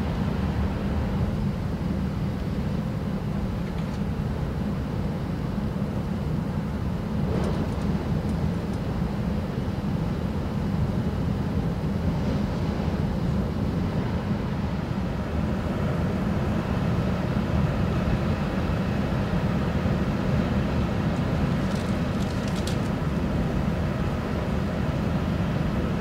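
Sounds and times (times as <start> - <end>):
train cabin rumble and hiss: 0.0 - 26.0.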